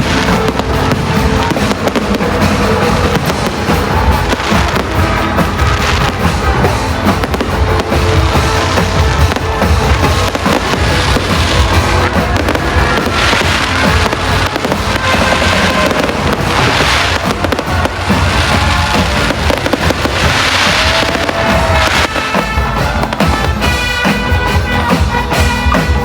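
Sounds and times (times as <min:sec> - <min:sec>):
fireworks popping and crackling: 0:00.0 - 0:26.0
music: 0:00.0 - 0:26.0.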